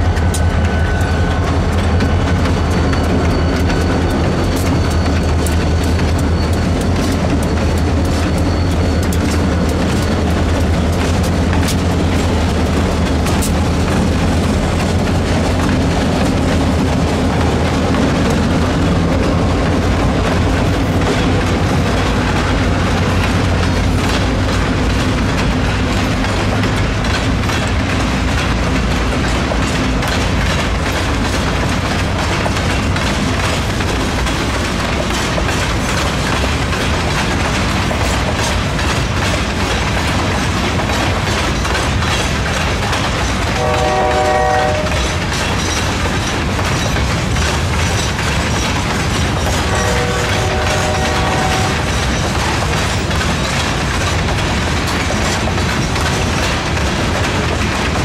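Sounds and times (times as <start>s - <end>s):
diesel locomotive engine drone: 0.0s - 58.0s
train wheels clicking over rail joints: 0.0s - 58.0s.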